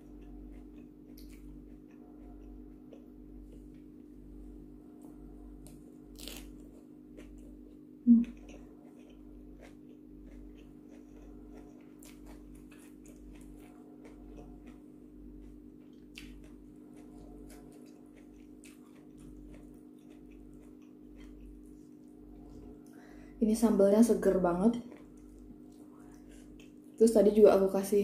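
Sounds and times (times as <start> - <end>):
faint chewing: 0.0 - 23.4, 24.2 - 27.4
steady low hum: 0.0 - 28.0.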